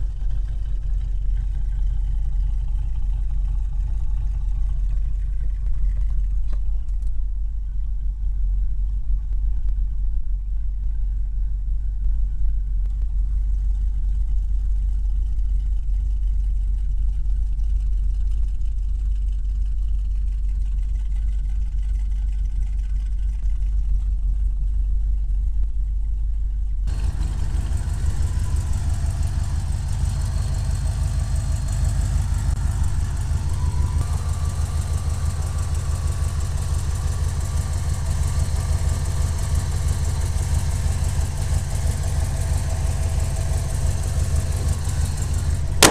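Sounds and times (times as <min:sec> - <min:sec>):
van engine idling: 0:00.0 - 0:45.9.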